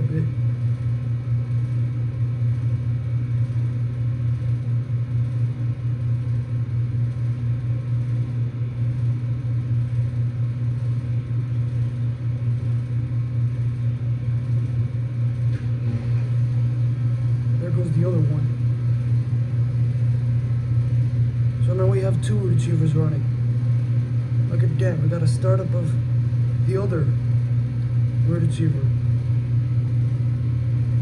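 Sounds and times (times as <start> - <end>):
heat pump compressor humming: 0.0 - 31.0.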